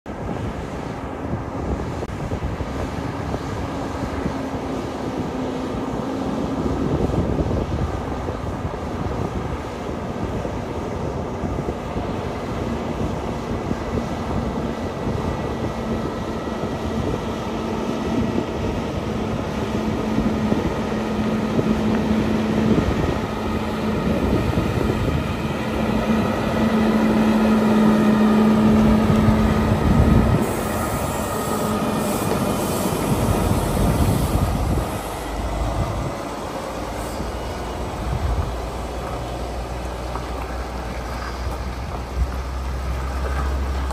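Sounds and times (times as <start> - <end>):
truck diesel engine droning: 0.1 - 43.9.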